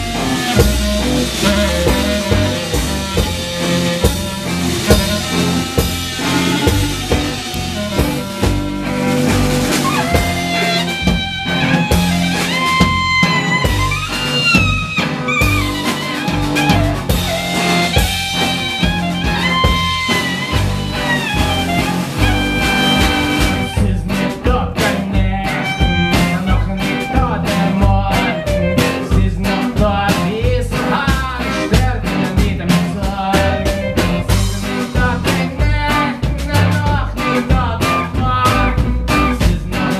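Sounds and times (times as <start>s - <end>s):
band lead melody: 0.0s - 39.9s
double bass: 0.0s - 39.9s
drum kit: 0.0s - 39.9s.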